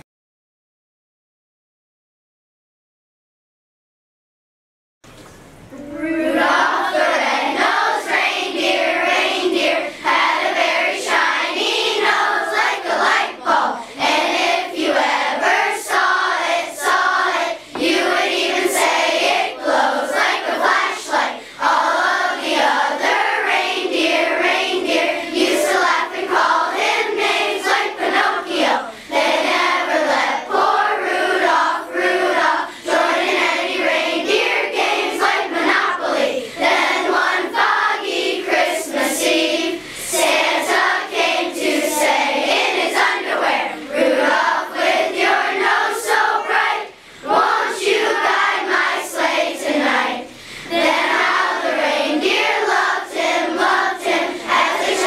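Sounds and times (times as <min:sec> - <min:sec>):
children singing in chorus: 0:05.7 - 0:55.0.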